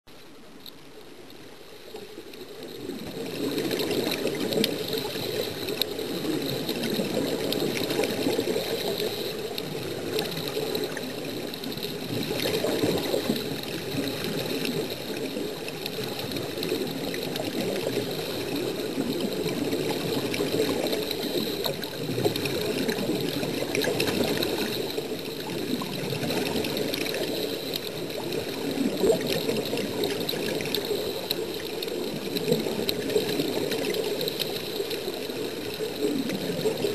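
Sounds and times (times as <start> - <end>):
air bubbles gurgling underwater: 1.8 - 36.9.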